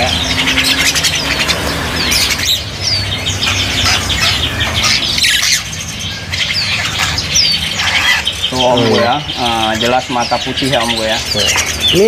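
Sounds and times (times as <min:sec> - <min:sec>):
caged birds chirping and squawking: 0:00.0 - 0:12.0.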